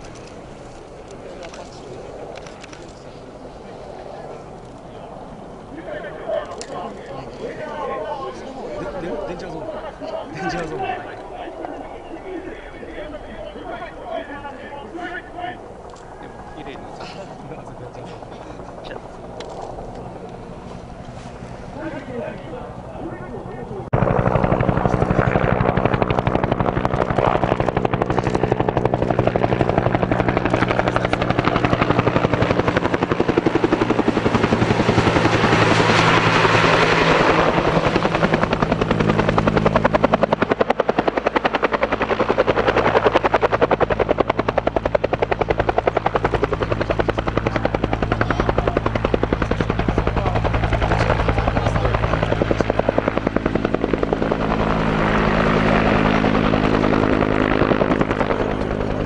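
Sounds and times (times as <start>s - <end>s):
helicopter rotor beat: 0.0s - 59.0s.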